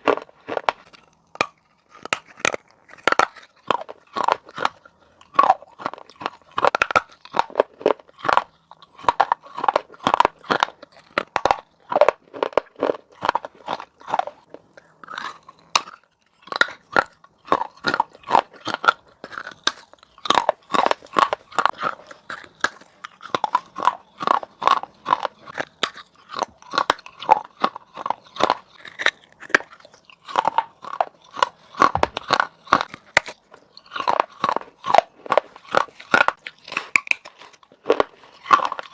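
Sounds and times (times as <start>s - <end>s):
crunchy chewing of clay: 0.0s - 38.9s.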